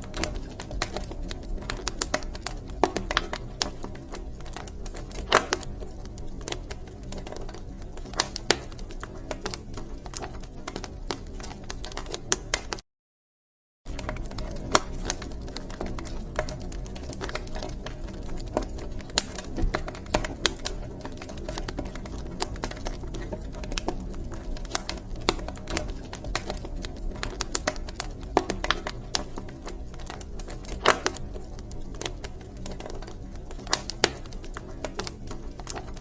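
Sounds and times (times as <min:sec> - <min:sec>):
wood fire crackling: 0:00.0 - 0:12.8, 0:13.9 - 0:36.0.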